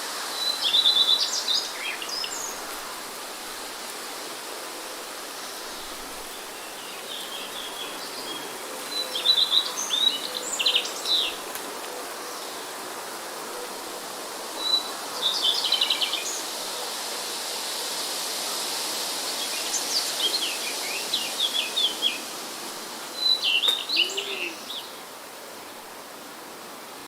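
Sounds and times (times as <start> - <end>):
steady background hiss: 0.0 - 27.0
songbirds chirping and trilling: 0.4 - 16.5, 19.4 - 25.1.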